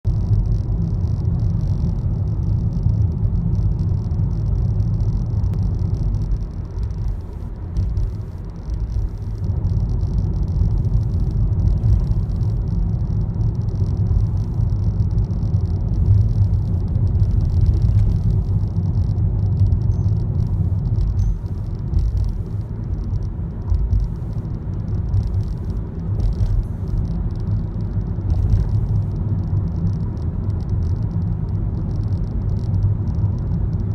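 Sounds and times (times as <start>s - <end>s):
car low rumble: 0.0s - 33.9s
car rattling: 0.1s - 33.9s.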